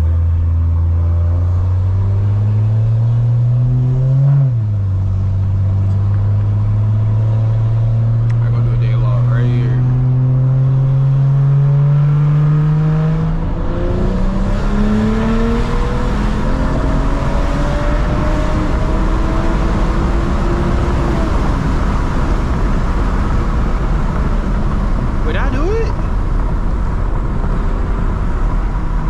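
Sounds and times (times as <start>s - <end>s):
car engine accelerating: 0.0s - 29.0s
rough road noise: 0.0s - 29.0s.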